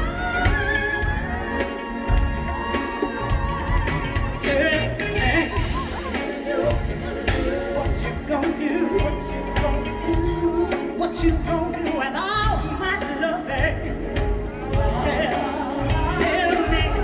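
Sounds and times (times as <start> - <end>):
live band playing: 0.0 - 17.0
woman singing: 0.0 - 17.0.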